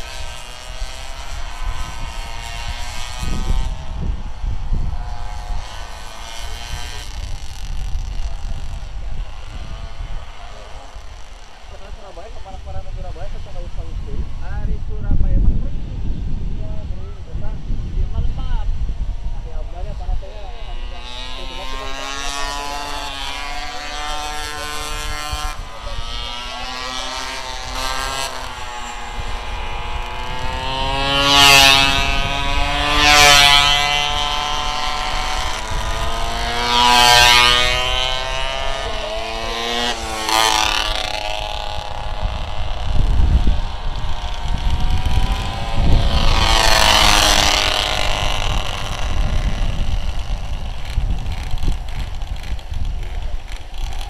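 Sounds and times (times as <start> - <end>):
bikes passing by: 0.0 - 54.0
small bike engines revving: 0.0 - 54.0.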